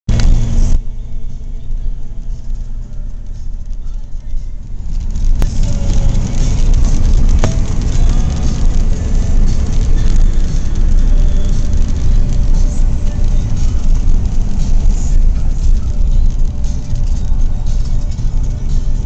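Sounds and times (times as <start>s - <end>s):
vehicle engine and tyre rumble: 0.1s - 19.0s.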